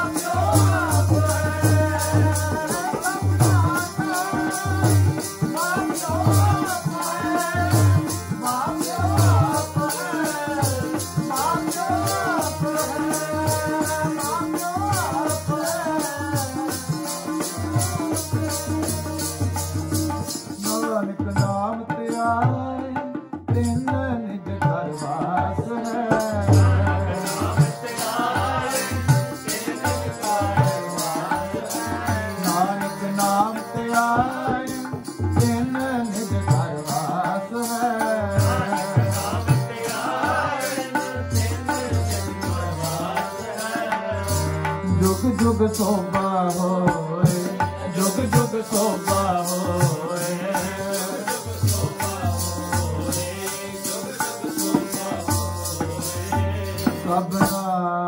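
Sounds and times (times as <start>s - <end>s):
steady tabla beat: 0.0s - 57.9s.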